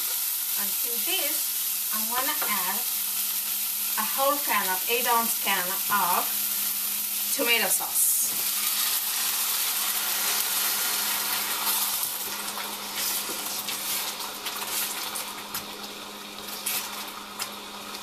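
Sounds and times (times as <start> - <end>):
sauce sizzling and spattering: 0.0 - 18.0.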